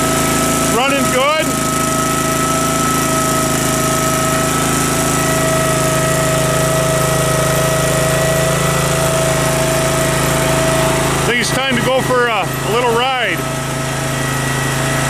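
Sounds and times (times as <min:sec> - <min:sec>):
tractor engine idling: 0:00.0 - 0:15.0
steady whine: 0:00.7 - 0:15.0.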